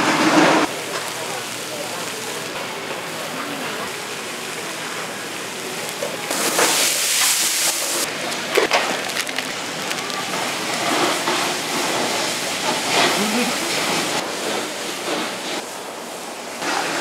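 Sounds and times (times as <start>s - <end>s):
wood fire hissing and crackling: 0.0s - 17.0s.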